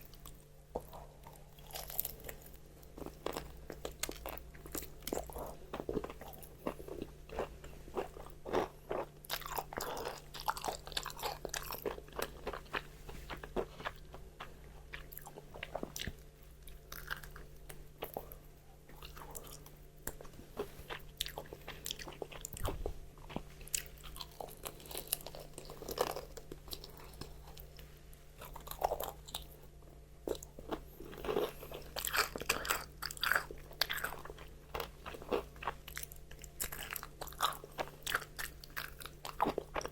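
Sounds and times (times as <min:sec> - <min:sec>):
crunching fried chicken: 0:00.0 - 0:27.8, 0:30.2 - 0:39.9.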